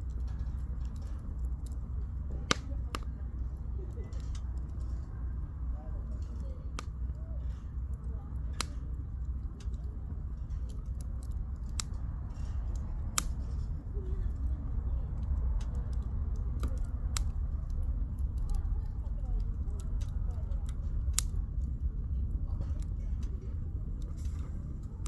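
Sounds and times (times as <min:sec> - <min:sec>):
campfire crackling and popping: 0:00.0 - 0:25.0
low rumble: 0:00.0 - 0:25.0.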